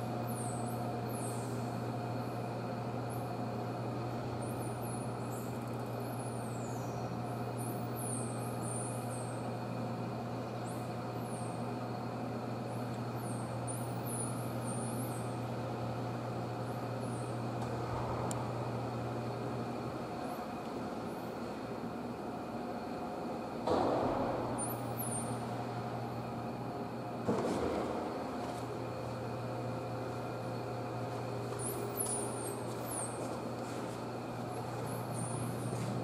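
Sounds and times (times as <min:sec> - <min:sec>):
low machinery hum: 0:00.0 - 0:36.0.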